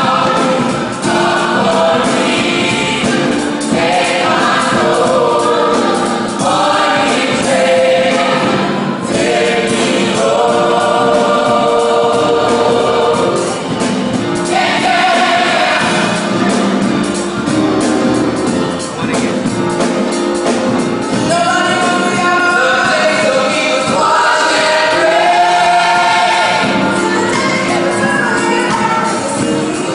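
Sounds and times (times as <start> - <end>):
drums bass and keyboards: 0.0 - 29.9
gospel choir singing: 0.0 - 29.9.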